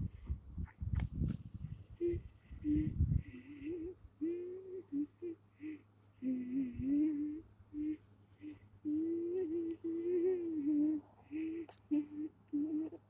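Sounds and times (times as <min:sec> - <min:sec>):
person humming: 0:02.0 - 0:13.0.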